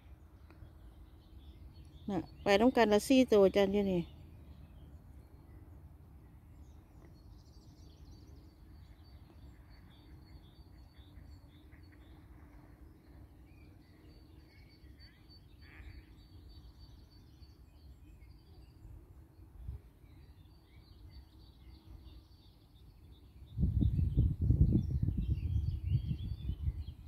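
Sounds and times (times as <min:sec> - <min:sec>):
faint bird chirps: 0:00.0 - 0:27.0.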